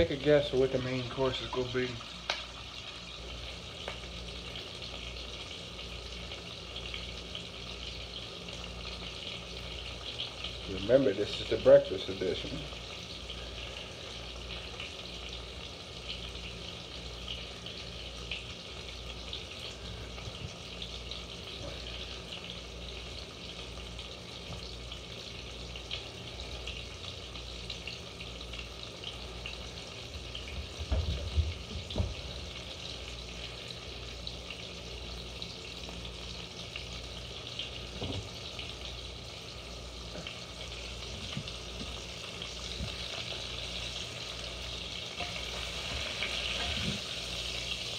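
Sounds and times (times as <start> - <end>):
bacon sizzling in a pan: 0.0 - 47.9.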